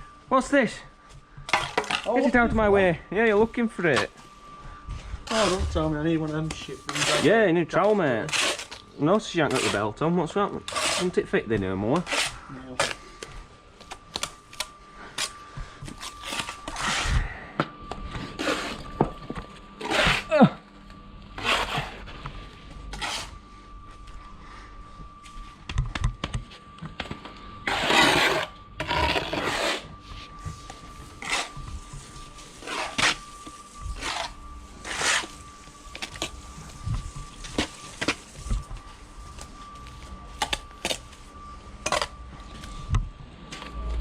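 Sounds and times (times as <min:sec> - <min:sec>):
faint high hum: 0:00.0 - 0:44.0.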